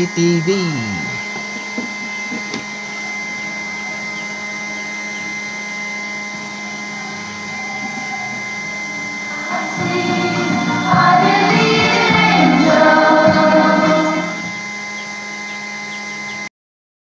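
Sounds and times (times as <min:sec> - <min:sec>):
electrical hum with high whine: 0:00.0 - 0:16.5.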